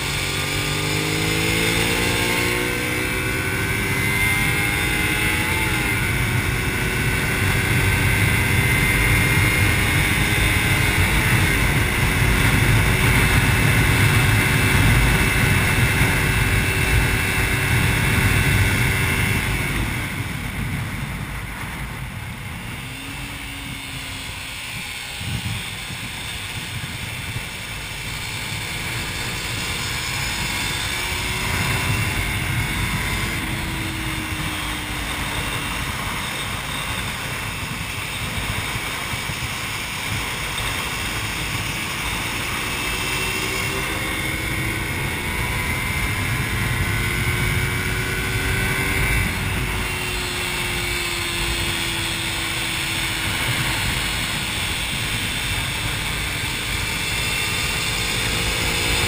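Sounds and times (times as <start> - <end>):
motorcycle engine accelerating: 0.0 - 59.0
wind rush on microphone: 0.0 - 59.0.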